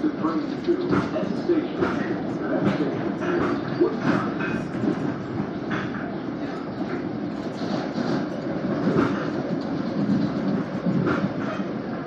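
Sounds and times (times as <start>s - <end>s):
train bumps: 0.0s - 12.0s
train wheels rumbling on rails: 0.0s - 12.0s.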